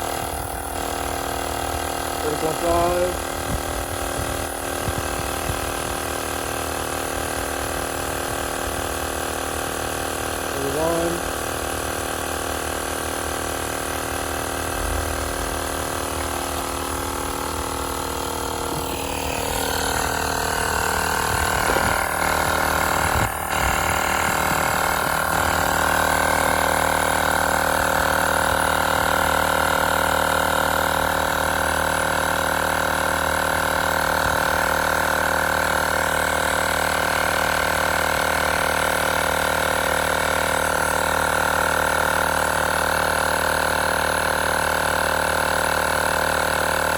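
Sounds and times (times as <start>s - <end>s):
tire inflator compressor running: 0.0s - 46.9s.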